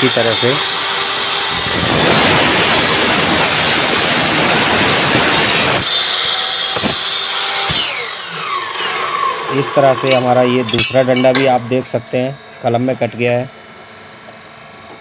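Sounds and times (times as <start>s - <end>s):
mitre saw cutting metal tube: 0.0s - 12.4s
saw blade whining: 0.0s - 13.4s.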